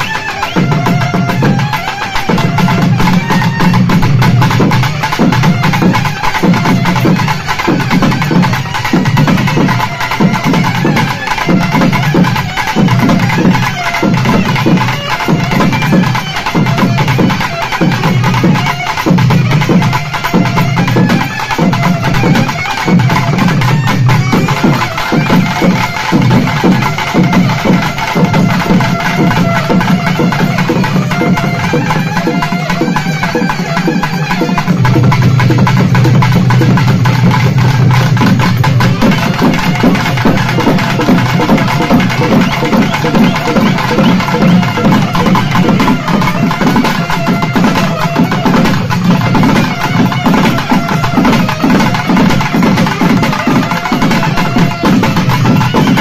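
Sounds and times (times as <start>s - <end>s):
barrel drums fast rhythm: 0.0s - 56.0s
reed pipe melody: 0.0s - 56.0s.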